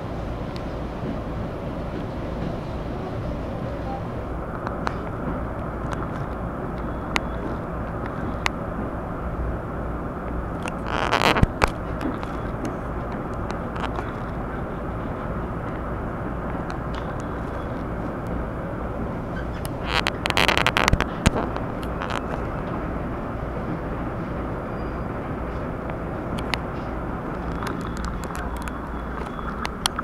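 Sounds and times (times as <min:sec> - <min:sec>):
train running noise: 0:00.0 - 0:30.0.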